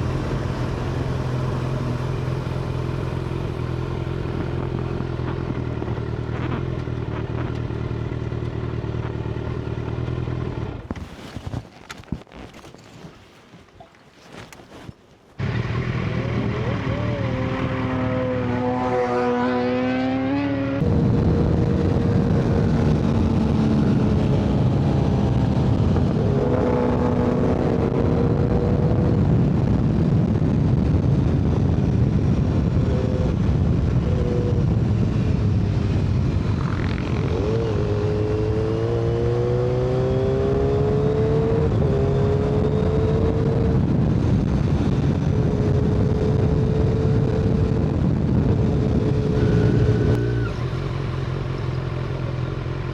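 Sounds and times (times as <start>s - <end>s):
motorcycle engine accelerating: 0.0s - 11.4s, 15.4s - 52.9s
wind and road rush: 0.0s - 52.9s.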